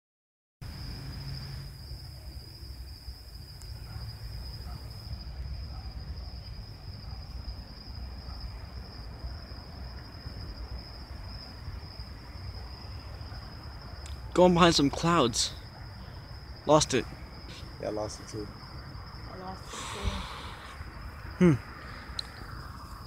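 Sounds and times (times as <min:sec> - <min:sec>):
crickets chirping: 0:00.6 - 0:23.0.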